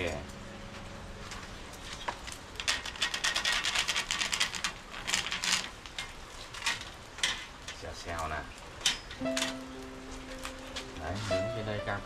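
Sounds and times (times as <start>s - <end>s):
food sizzling on grill: 1.2s - 12.0s.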